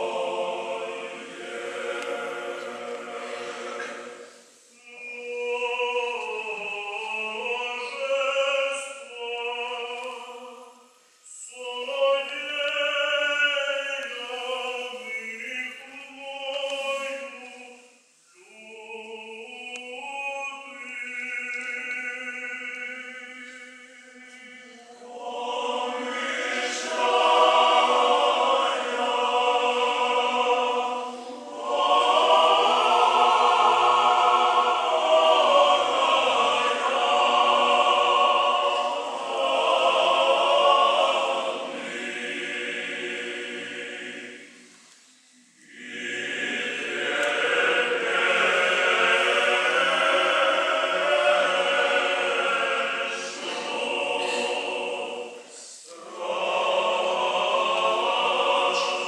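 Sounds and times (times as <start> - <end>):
choir singing a cappella chant: 0.0 - 44.8, 45.4 - 59.0.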